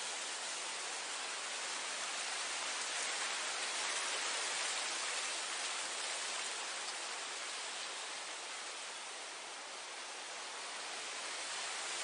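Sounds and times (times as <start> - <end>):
wind blowing through grass: 0.0 - 12.0.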